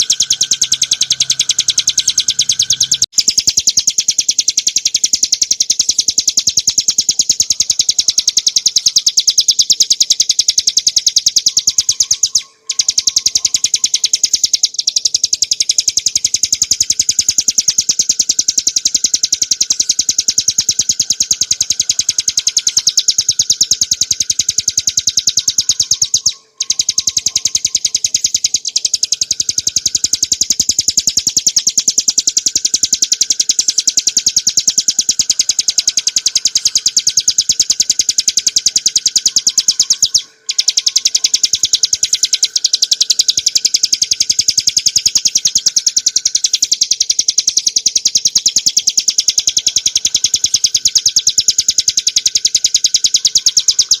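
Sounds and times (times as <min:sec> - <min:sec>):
bird singing rapid trill: 0:00.0 - 0:54.0.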